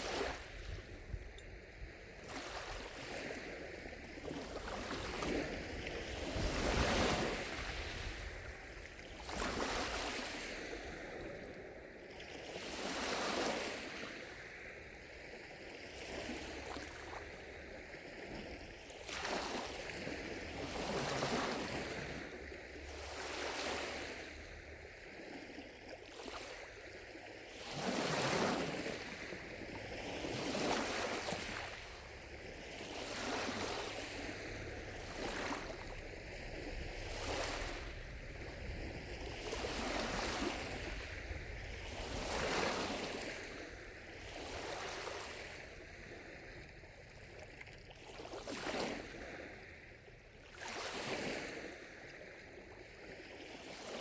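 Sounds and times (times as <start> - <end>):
lake waves lapping on shore: 0.0 - 54.0.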